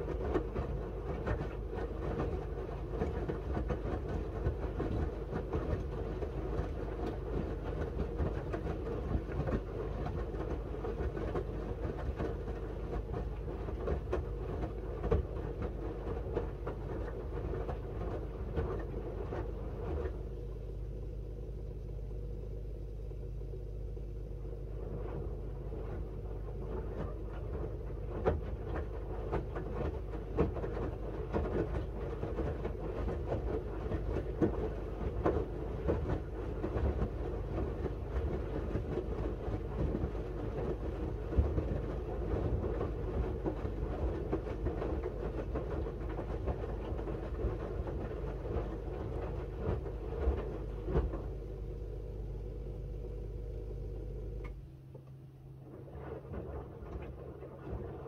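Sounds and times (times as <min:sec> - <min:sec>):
laundry tumbling in washing machine: 0:00.0 - 0:58.0
washing machine motor hum: 0:00.0 - 0:58.0.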